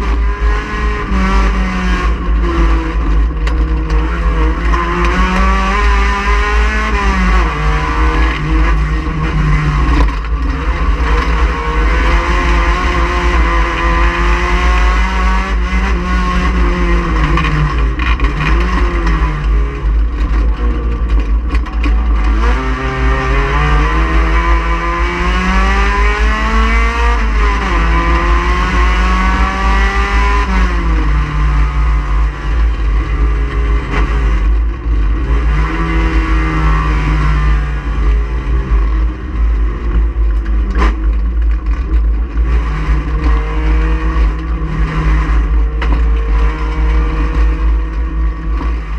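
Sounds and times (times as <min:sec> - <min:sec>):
heavy low rumble: 0:00.0 - 0:48.9
race car engine at high revs: 0:00.0 - 0:48.9.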